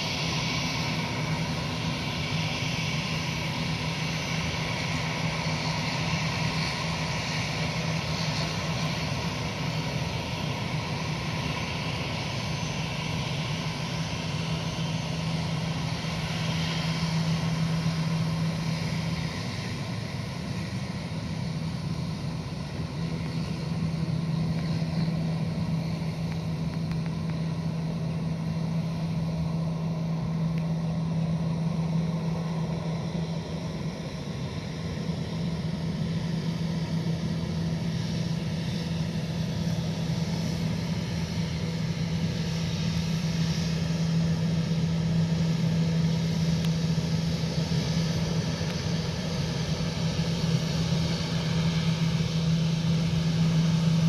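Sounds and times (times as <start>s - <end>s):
high-pitched engine whine: 0.0s - 54.0s
jet engines droning: 0.0s - 54.0s.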